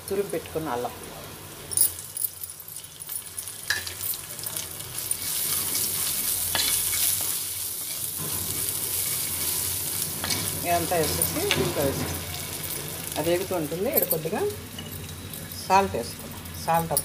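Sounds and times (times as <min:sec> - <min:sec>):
spices sizzling in hot fat: 0:00.0 - 0:17.0.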